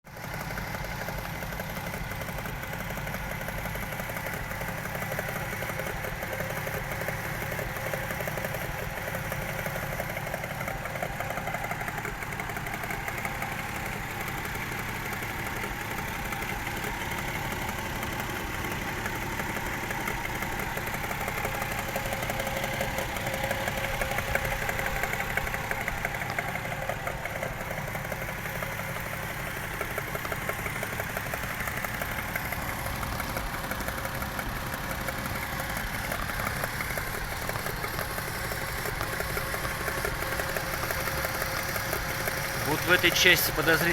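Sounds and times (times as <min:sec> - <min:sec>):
car engine idling with knock: 0:00.1 - 0:43.9.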